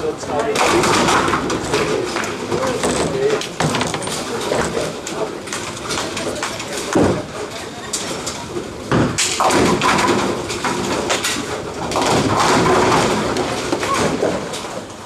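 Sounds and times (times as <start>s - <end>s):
bowling alley rumble and clatter: 0.0s - 15.0s
bowling ball crashing into pins: 0.5s - 7.5s, 8.1s - 15.0s.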